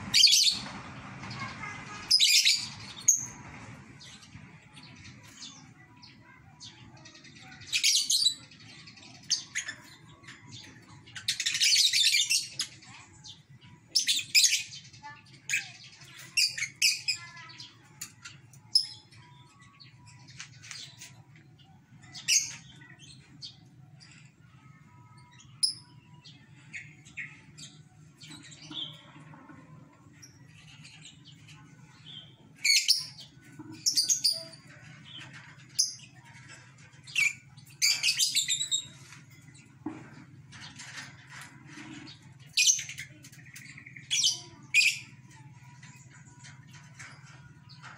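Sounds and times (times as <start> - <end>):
birds chattering rapidly: 0.0 - 47.9.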